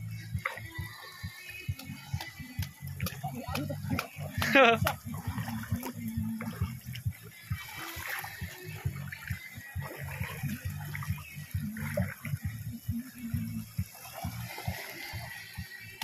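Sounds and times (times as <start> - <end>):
river water rushing and splashing: 0.0 - 16.0.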